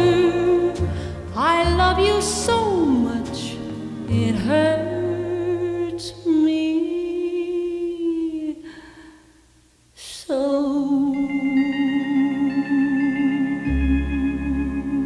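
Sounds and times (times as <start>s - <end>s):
soft accompaniment: 0.0s - 8.5s, 10.6s - 15.0s.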